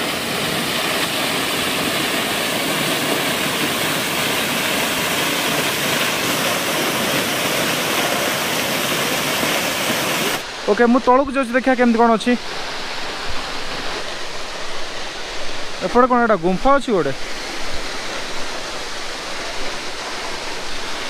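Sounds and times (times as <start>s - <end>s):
waterfall splashing over rocks: 0.0s - 21.0s.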